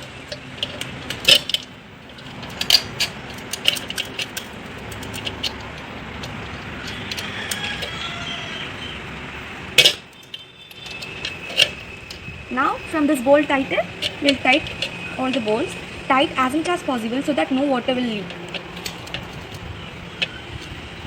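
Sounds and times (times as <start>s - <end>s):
steel rods clinking and rattling: 0.0s - 8.2s, 9.7s - 12.3s, 13.0s - 21.0s.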